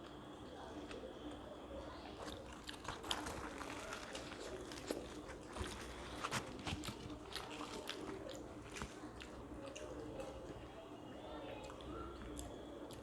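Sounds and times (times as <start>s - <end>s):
people chewing and tearing bread: 0.0s - 13.0s.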